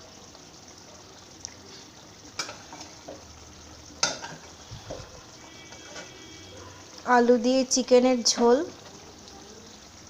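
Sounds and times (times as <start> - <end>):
curry sizzling in a pot: 0.0 - 10.0.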